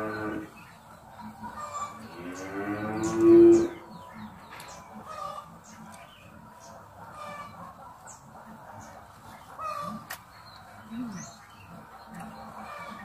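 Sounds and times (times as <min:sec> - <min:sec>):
bird chirps: 0:00.0 - 0:13.0
chickens clucking: 0:00.0 - 0:13.0.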